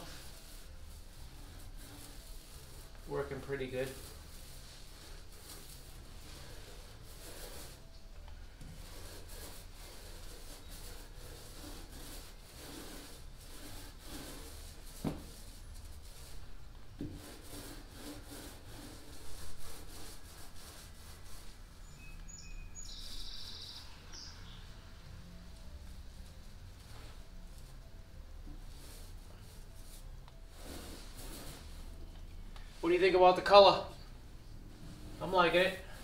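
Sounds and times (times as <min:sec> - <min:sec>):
paint roller rubbing on wood: 0:00.0 - 0:24.7, 0:25.6 - 0:32.1, 0:32.7 - 0:34.0, 0:34.6 - 0:36.0.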